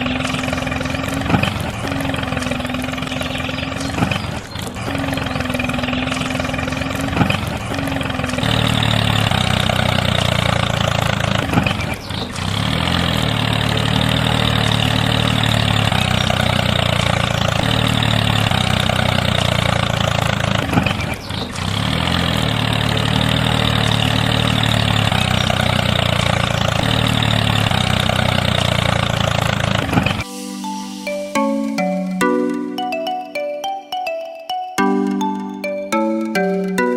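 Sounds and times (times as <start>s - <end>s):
engine idling: 0.0s - 30.3s.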